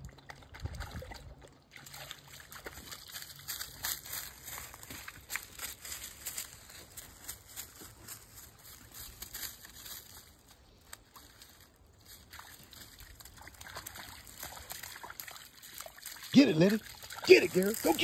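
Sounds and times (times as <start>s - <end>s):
footsteps crunching dry leaves: 2.6s - 18.0s.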